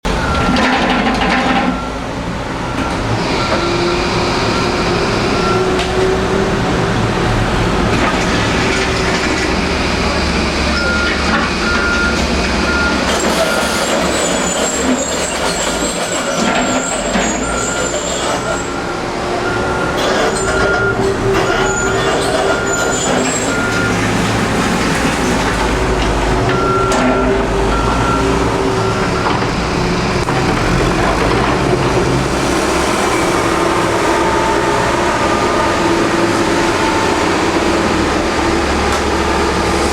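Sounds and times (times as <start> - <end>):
heavy construction machinery running: 0.0 - 39.9.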